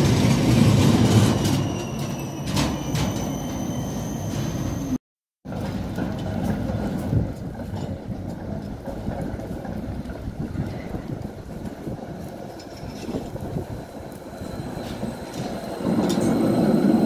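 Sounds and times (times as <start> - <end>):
city noise: 0.0 - 17.0
tram rumbling on tracks: 0.0 - 17.0.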